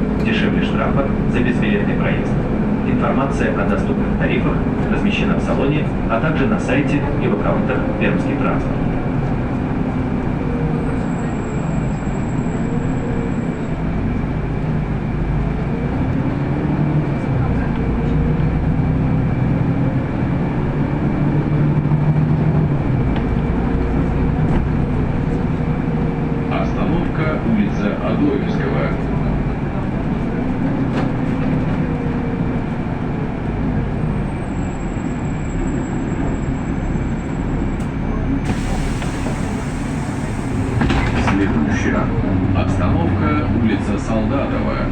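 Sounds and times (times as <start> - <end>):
bus engine drone: 0.0 - 44.9
road noise: 0.0 - 44.9.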